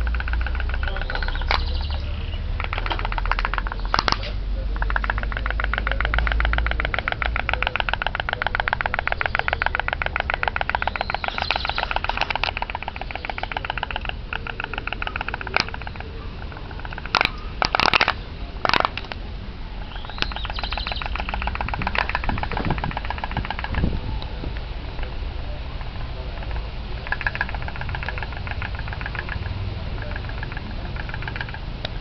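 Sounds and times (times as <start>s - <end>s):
toy boat engine popping: 0.0s - 24.3s, 25.7s - 32.0s
loud sharp clicks: 0.0s - 25.1s, 25.8s - 32.0s.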